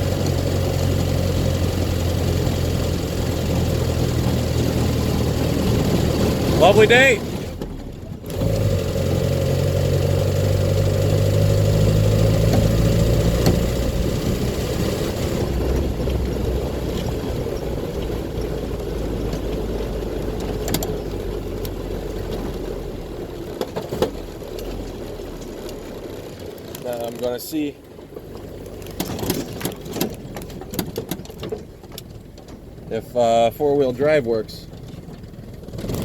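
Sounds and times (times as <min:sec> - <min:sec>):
faint drivetrain whine: 0:00.0 - 0:36.0
truck engine driving: 0:00.0 - 0:36.0.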